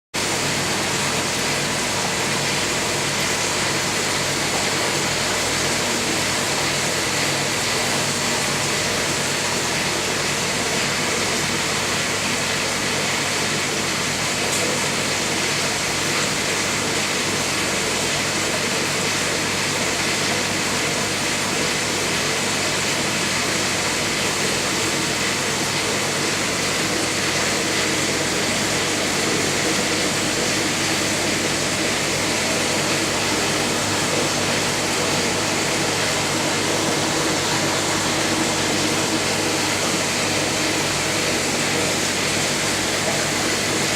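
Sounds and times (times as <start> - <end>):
low machine hum: 0.2 - 43.9.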